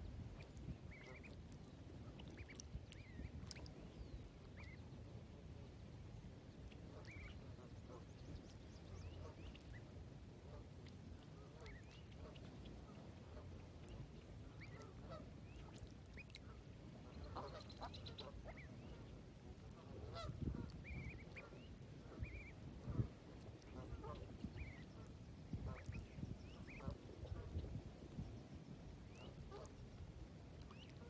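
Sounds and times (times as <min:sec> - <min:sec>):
low steady rumble: 0:00.0 - 0:31.0
ducklings peeping: 0:00.4 - 0:05.0, 0:06.6 - 0:09.9, 0:10.5 - 0:12.8, 0:13.5 - 0:16.4, 0:17.0 - 0:28.2, 0:29.0 - 0:29.8, 0:30.6 - 0:31.0.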